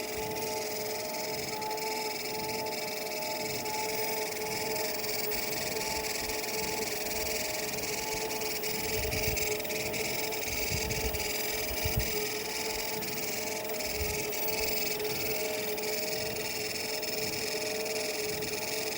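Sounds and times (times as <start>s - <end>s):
motor hum: 0.0s - 18.9s
treadmill belt squealing: 0.0s - 18.9s.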